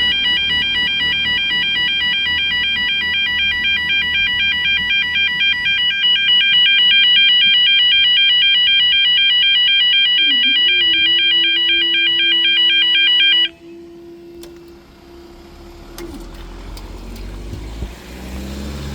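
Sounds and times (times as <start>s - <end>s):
level crossing warning alarm: 0.0s - 15.2s.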